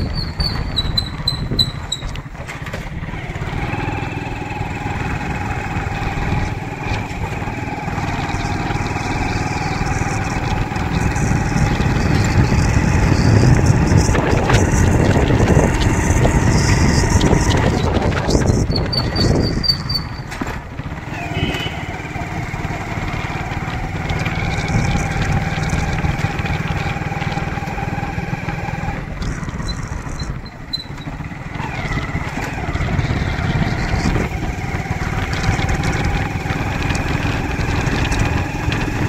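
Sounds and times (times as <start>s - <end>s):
motorbike engine running: 0.0s - 39.0s.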